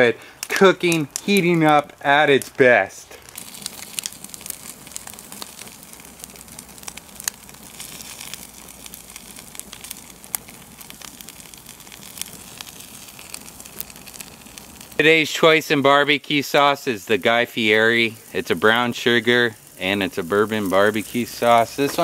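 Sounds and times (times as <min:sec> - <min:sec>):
burning log crackling and popping: 0:00.0 - 0:22.0
hiss of flame: 0:02.6 - 0:22.0.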